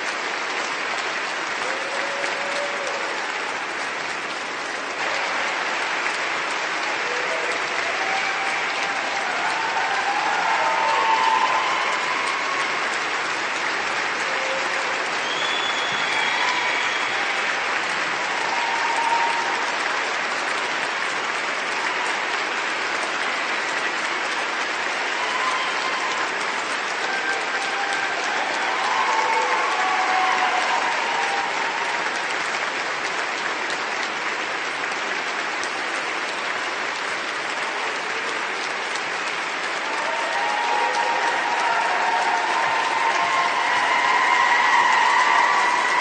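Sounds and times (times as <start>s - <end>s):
crowd applauding: 0.0s - 46.0s.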